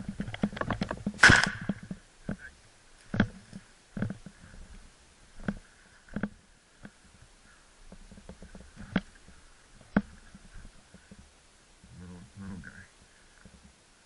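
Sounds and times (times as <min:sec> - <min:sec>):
rustling and scraping of brush: 0:00.0 - 0:13.9.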